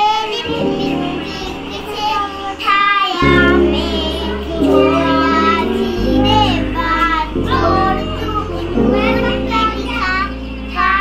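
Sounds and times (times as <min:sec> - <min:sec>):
high child-like singing voice: 0:00.0 - 0:11.0
instrumental backing with bass: 0:00.6 - 0:11.0.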